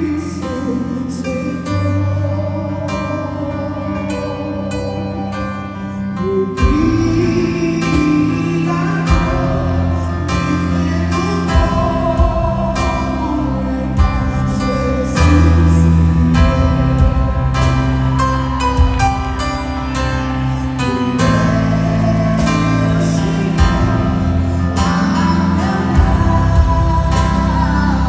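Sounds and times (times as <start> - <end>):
gospel singing: 0.0 - 28.0.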